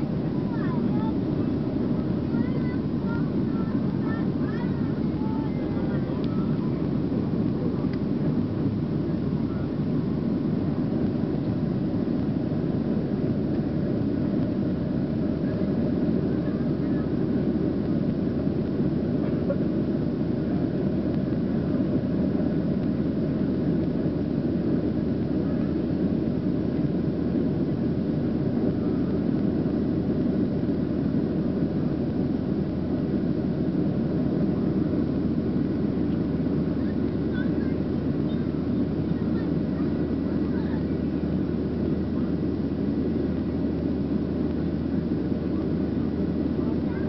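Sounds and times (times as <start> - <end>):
faint steady tones: 0.0 - 47.0
jet engine and airflow in cabin: 0.0 - 47.0.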